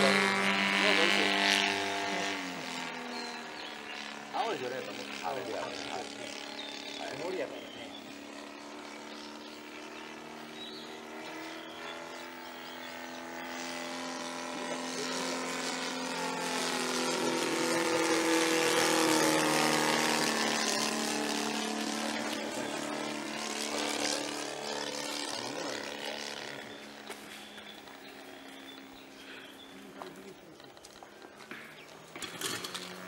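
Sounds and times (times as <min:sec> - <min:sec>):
model airplane engine passing: 0:00.0 - 0:33.0.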